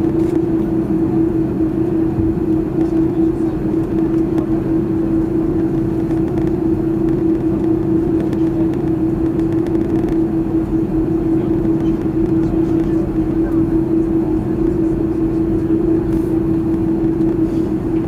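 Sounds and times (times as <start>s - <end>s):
aircraft engines rumbling: 0.0s - 18.0s
constant hum: 0.0s - 18.0s.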